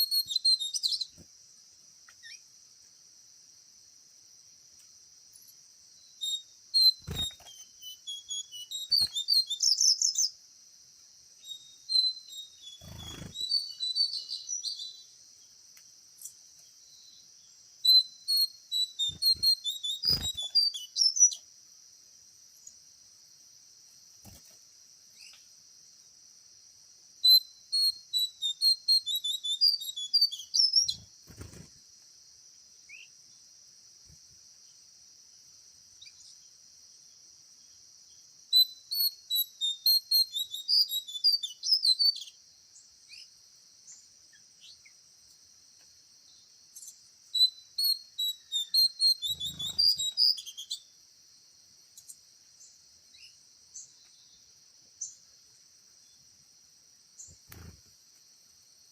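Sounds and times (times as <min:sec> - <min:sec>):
insect drone: 0:00.0 - 0:58.9
songbird chirping: 0:00.0 - 0:58.9.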